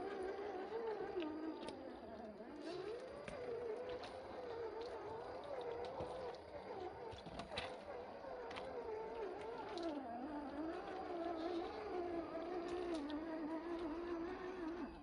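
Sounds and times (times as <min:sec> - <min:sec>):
toy truck electric motor whining: 0:00.0 - 0:07.0, 0:07.8 - 0:15.0
water splashes: 0:00.0 - 0:15.0.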